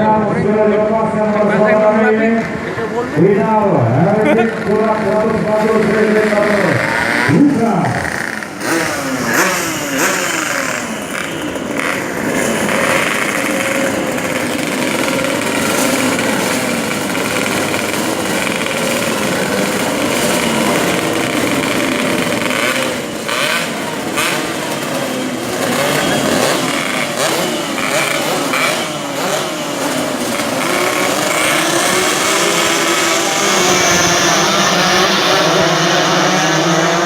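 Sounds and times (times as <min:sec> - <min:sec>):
motorbikes revving and accelerating: 0:00.0 - 0:37.0.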